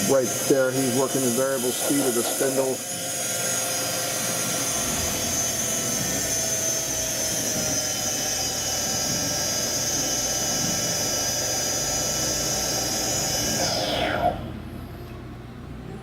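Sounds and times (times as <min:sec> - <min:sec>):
grinder spindle whining: 0:00.0 - 0:15.4.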